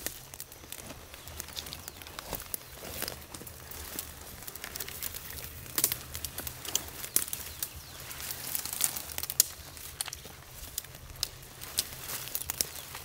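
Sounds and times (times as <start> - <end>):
footsteps through dense brush: 0.0 - 13.0
twigs and leaves snapping: 0.0 - 13.0.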